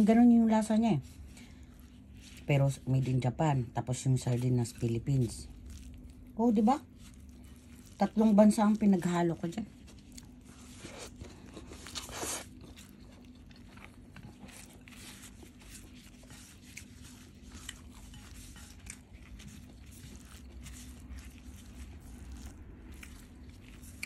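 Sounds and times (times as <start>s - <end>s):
person chewing food: 1.0s - 3.1s, 4.2s - 24.0s.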